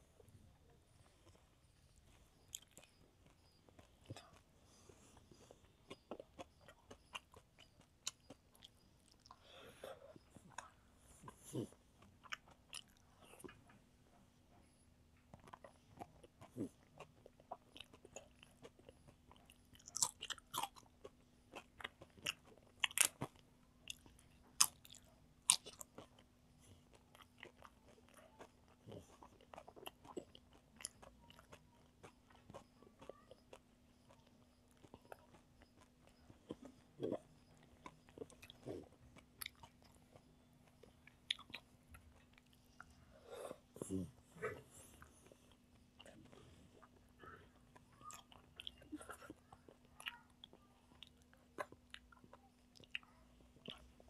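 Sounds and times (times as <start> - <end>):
faint steady hum: 0.0 - 54.0
chewing and mouth sounds: 0.6 - 14.4, 15.0 - 54.0.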